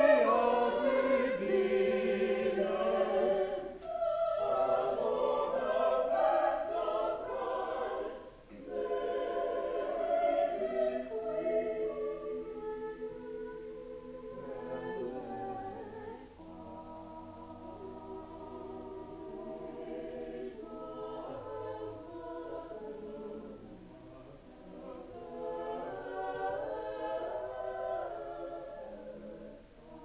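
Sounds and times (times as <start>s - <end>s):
mixed choir singing chords: 0.0s - 30.0s.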